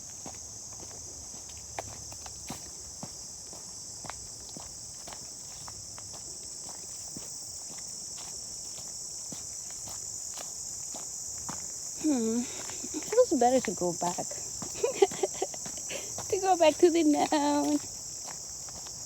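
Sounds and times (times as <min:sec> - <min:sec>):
insects chorus: 0:00.0 - 0:19.0
footsteps walking: 0:00.1 - 0:19.0.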